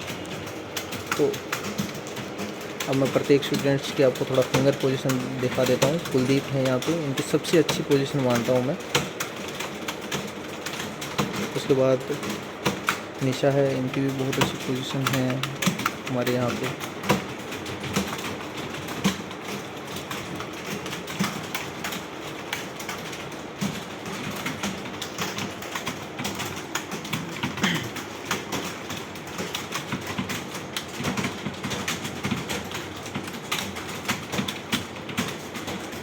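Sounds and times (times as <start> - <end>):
many keyboards clattering: 0.0 - 36.0.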